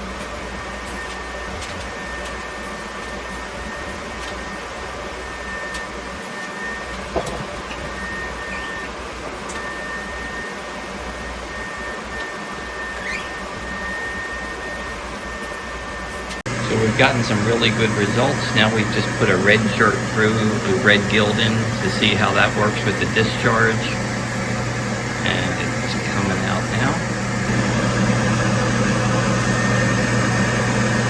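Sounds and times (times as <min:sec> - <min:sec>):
high whine: 0:00.0 - 0:31.0
low hum: 0:00.0 - 0:31.0
machinery motor and fan drone: 0:00.0 - 0:31.0.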